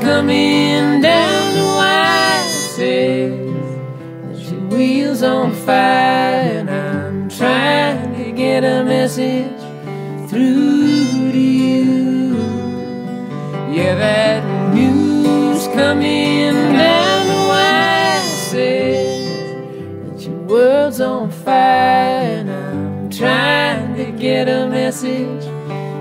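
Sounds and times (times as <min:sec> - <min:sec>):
acoustic guitars strumming: 0:00.0 - 0:26.0
person singing: 0:00.0 - 0:26.0.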